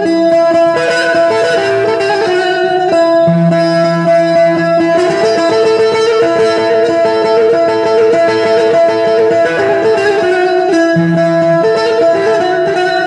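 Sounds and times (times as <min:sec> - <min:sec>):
long-necked lute melody: 0:00.0 - 0:13.0.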